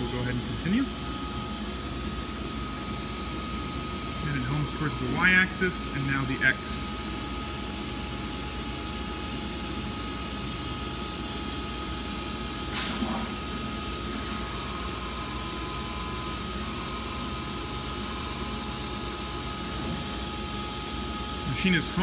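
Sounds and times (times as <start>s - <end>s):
machine hiss and hum: 0.0s - 22.0s.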